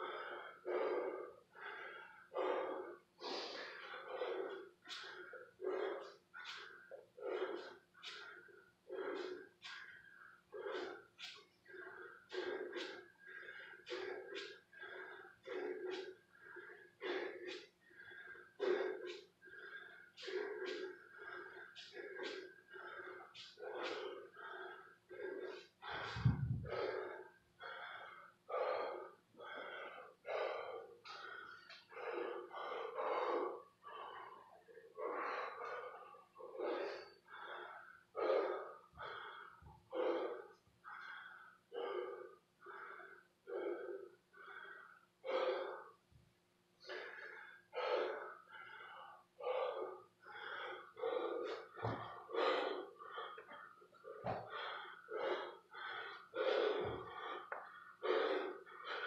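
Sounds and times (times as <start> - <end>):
man breathing hard: 0.0 - 46.2, 46.8 - 59.0.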